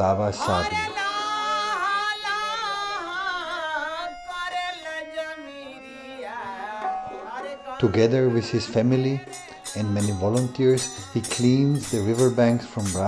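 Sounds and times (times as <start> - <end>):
person singing ornamented melody: 0.4 - 13.0.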